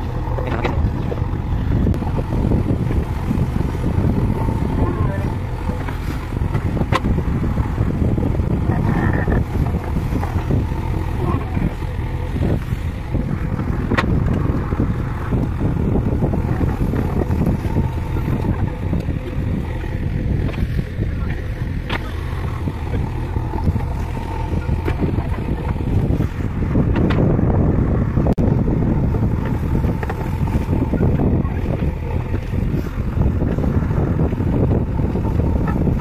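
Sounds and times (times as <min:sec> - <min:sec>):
diesel engine under load: 0:00.0 - 0:36.0.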